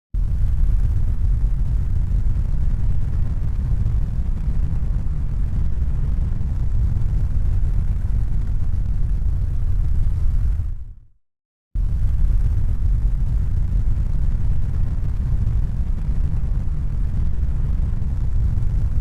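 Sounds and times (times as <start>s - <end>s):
steady low rumble: 0.2s - 11.1s, 11.8s - 19.0s.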